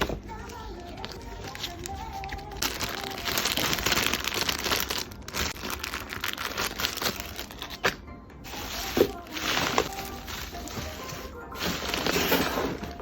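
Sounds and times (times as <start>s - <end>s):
packing material crinkling: 0.0s - 7.9s, 8.5s - 13.0s.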